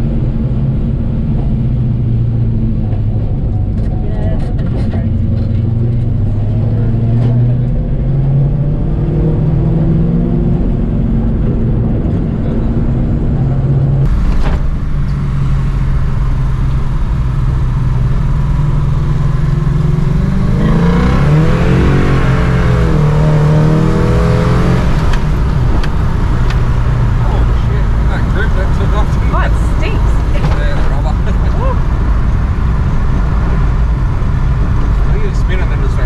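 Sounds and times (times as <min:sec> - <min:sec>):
car engine running in cabin: 0:00.0 - 0:36.0.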